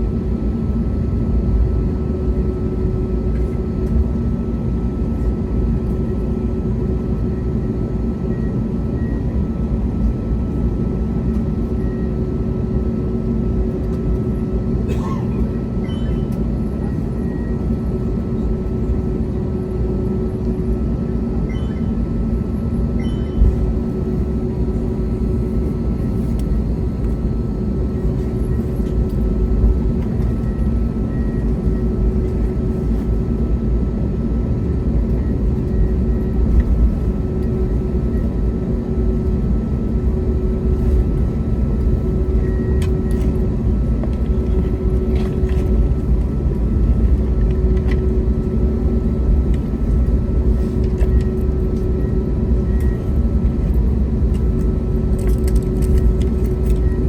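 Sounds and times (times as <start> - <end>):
aircraft cabin low rumble: 0.0 - 57.0
engine whine at idle: 0.1 - 57.0.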